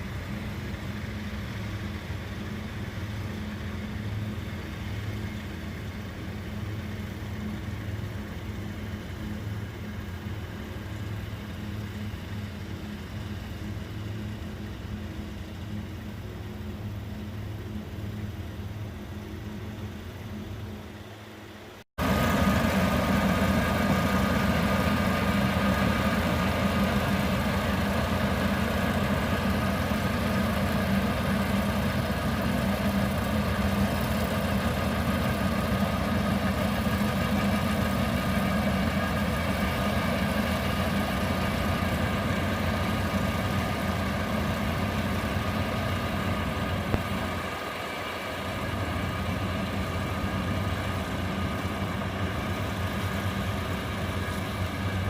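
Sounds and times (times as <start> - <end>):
harvester engine running: 0.0 - 55.0.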